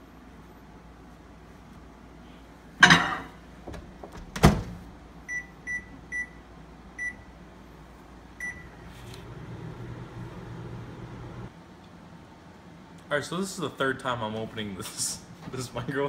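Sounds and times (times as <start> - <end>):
microwave oven hum: 0.0 - 13.2.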